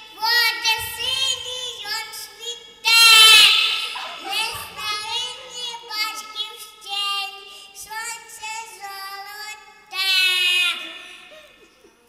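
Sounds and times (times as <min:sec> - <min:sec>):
girl singing into microphone: 0:00.0 - 0:11.4.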